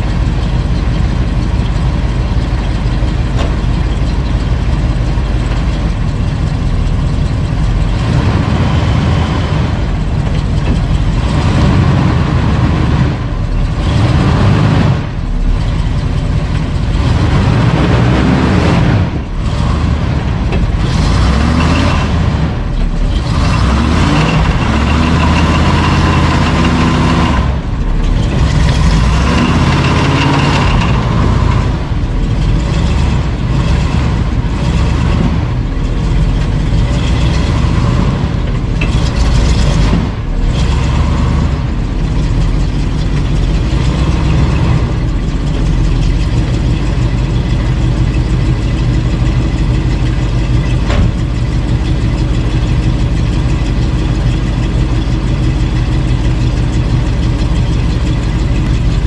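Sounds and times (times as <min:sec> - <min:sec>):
pickup truck engine revving: 0:00.0 - 0:59.0.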